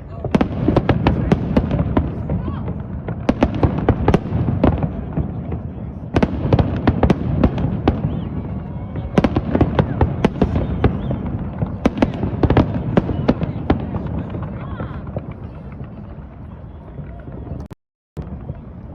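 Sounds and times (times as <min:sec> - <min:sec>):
fireworks bangs and crackles: 0:00.0 - 0:18.9.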